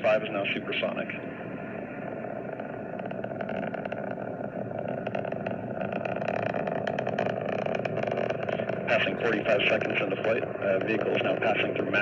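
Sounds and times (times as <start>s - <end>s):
rocket crackling: 0.0s - 12.0s
rocket engine rumble: 0.0s - 12.0s.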